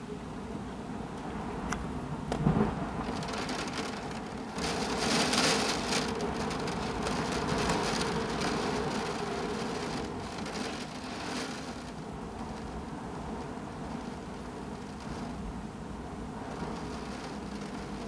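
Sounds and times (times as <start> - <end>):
heavy rain falling: 2.3 - 15.5, 16.2 - 18.0
raindrops ticking on a surface: 2.3 - 15.5, 16.3 - 18.0.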